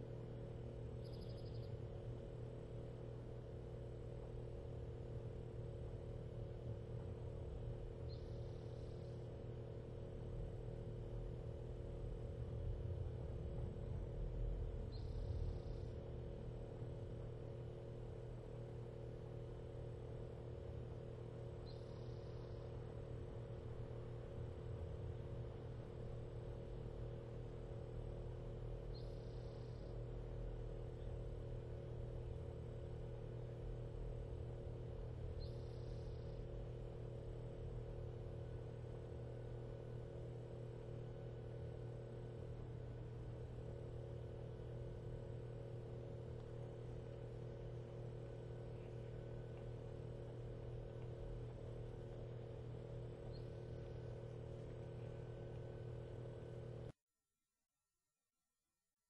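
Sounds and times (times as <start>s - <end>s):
low hum and rumble: 0.0s - 57.0s.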